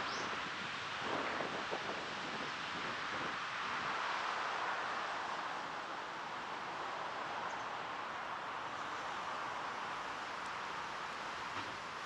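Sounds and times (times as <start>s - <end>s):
outdoor background rush: 0.0s - 12.0s.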